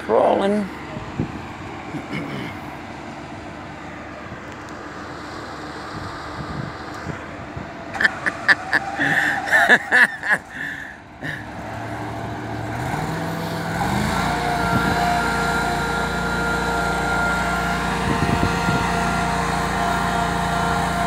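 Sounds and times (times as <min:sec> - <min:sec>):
machine engine speeding up: 0:00.7 - 0:10.6, 0:11.2 - 0:21.0.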